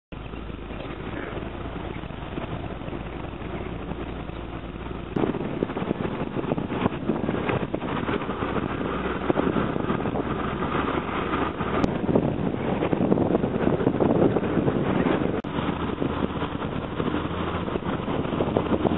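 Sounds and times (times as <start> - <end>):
bus engine hum: 0.1 - 18.9
road noise: 0.1 - 18.9
rush and wind noise: 0.1 - 18.9.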